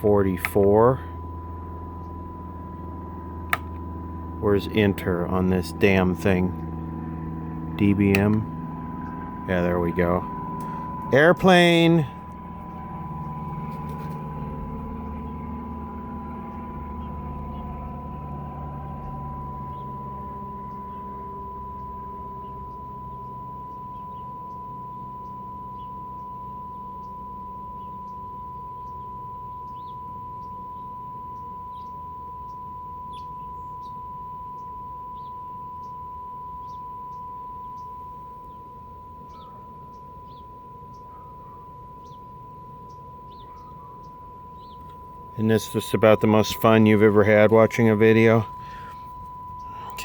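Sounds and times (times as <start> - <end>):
steady test tone: 0.0 - 50.0.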